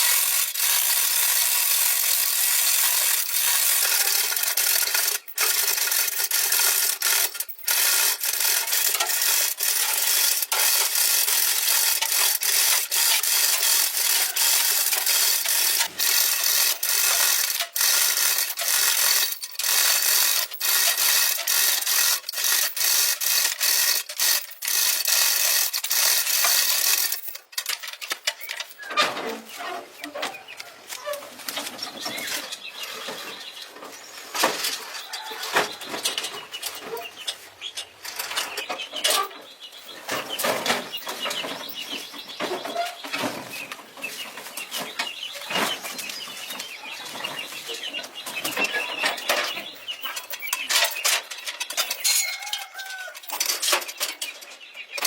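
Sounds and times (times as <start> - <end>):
irregular scraping and clicking: 0.0 - 55.0.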